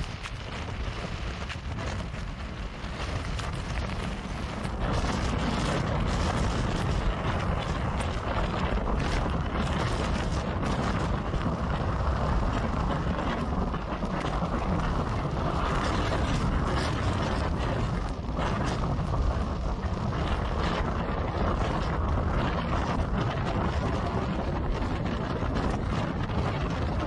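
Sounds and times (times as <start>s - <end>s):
tornado wind rushing: 0.0s - 27.0s.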